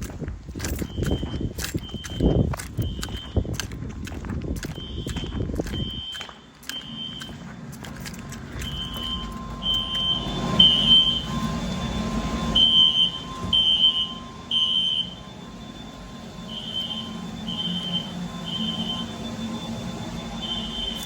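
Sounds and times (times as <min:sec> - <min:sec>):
fire alarm beeping: 0:00.0 - 0:21.0
low rumble: 0:00.0 - 0:21.0.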